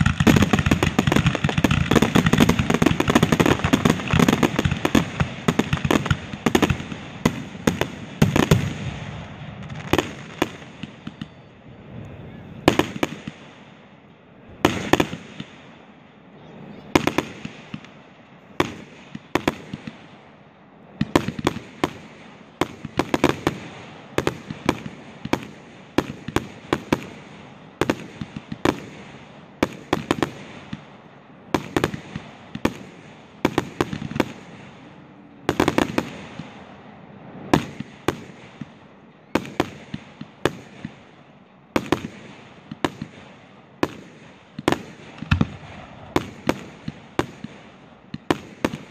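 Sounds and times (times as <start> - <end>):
fireworks bursting with sharp bangs: 0.0 - 48.9.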